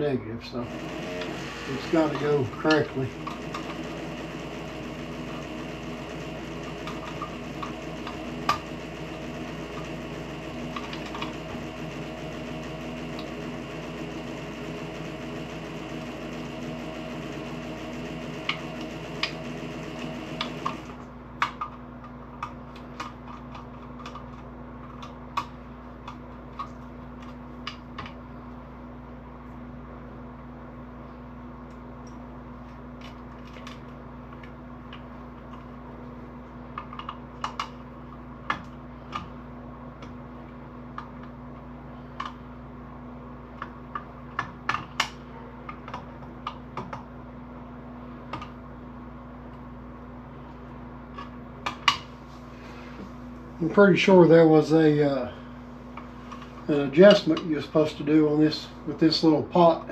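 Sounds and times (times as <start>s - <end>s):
faint steady hum: 0.0s - 59.9s
mechanical hum: 0.0s - 59.9s.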